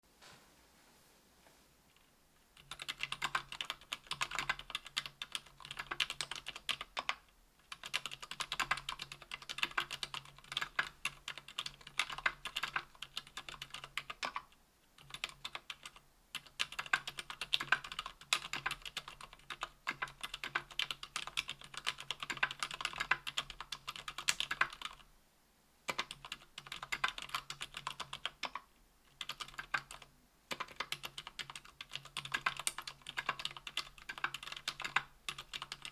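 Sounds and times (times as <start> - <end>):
mechanical keyboard typing: 2.6 - 25.0, 25.9 - 35.9.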